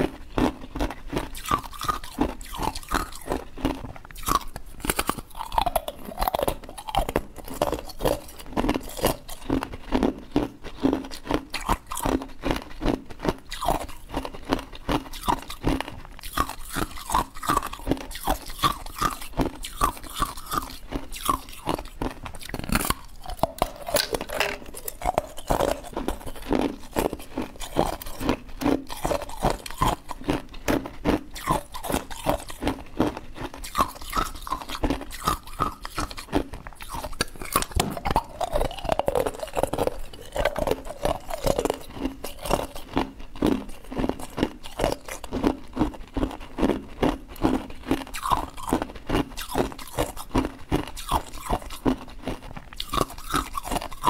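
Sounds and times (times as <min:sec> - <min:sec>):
person crunching ice cubes: 0:00.0 - 0:54.0.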